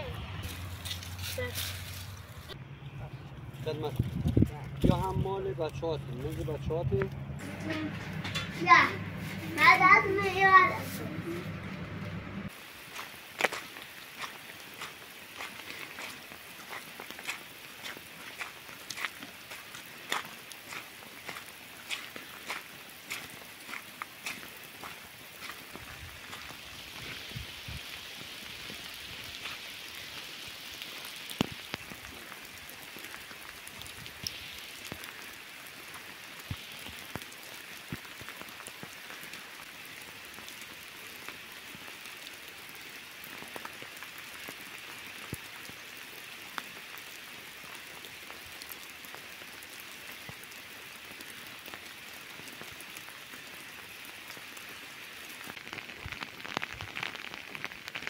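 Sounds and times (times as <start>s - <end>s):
rain falling on rocky ground: 0.0s - 58.0s.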